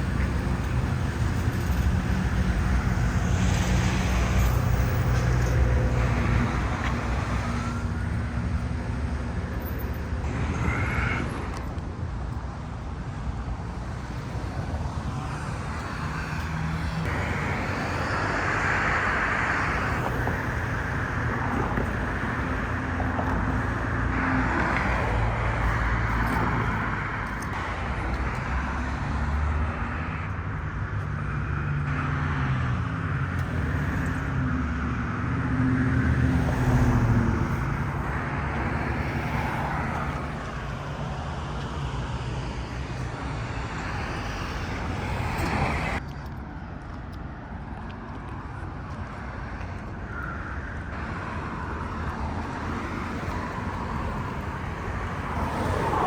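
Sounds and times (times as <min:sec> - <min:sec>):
cars driving past: 0:00.0 - 0:46.9, 0:47.6 - 0:56.0.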